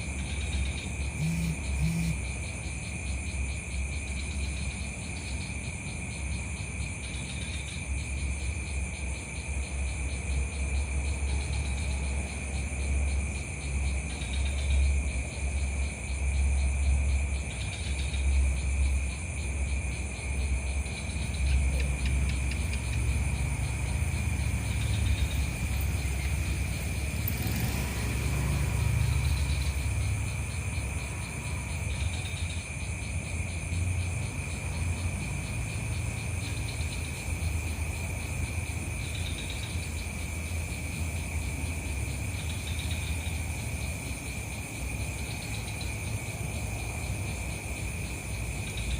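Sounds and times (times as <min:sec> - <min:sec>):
night insects trilling: 0:00.0 - 0:48.9.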